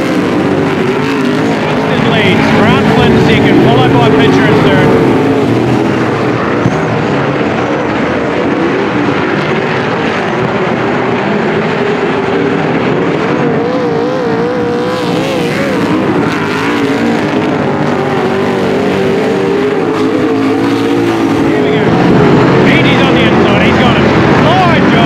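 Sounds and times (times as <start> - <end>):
race car engines running hard: 0.0 - 25.0.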